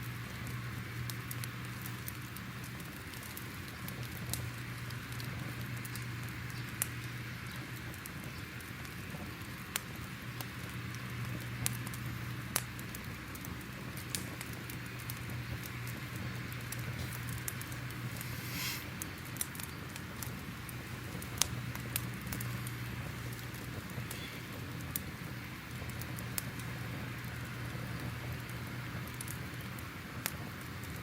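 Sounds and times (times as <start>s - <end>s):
fire crackling: 0.0s - 31.0s.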